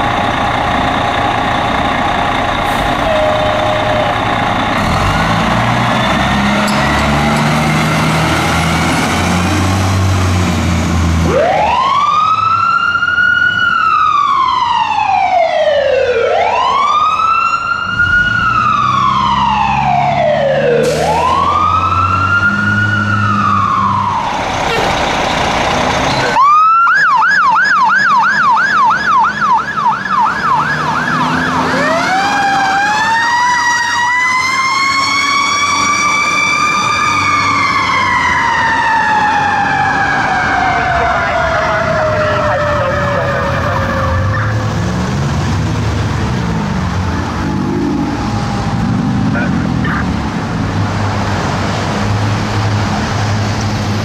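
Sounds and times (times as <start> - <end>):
engine rumble: 0.0 - 54.0
fire truck siren: 0.0 - 54.0.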